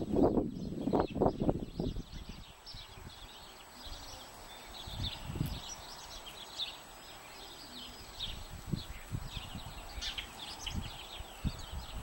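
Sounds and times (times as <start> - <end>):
small songbirds chirping: 0.0 - 12.0.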